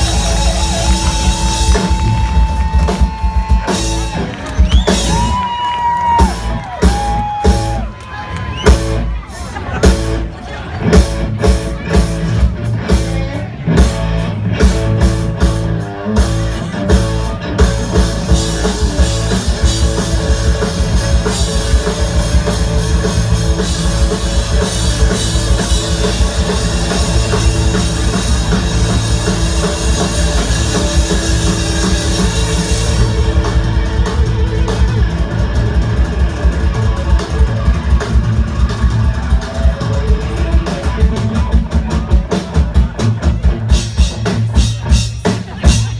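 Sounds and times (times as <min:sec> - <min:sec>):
drum kit beat: 0:00.0 - 0:07.9, 0:08.6 - 0:45.9
live rock band playing: 0:00.0 - 0:45.9.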